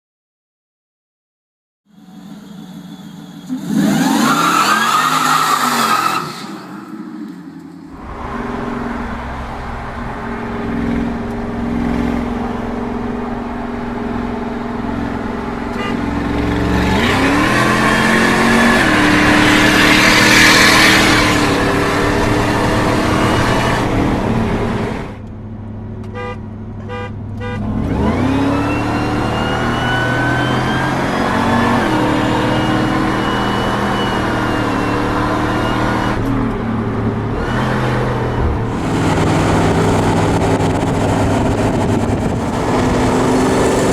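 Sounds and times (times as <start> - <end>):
high supercharger whine: 1.9 - 26.0, 26.8 - 43.9
truck engine revving: 2.2 - 25.2, 27.5 - 43.9.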